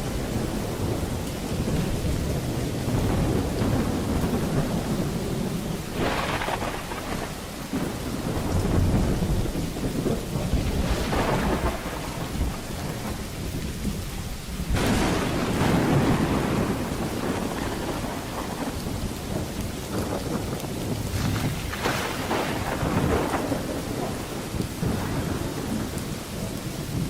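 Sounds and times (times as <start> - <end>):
steady rain: 0.0 - 27.0
thunder rumbling: 0.0 - 27.0.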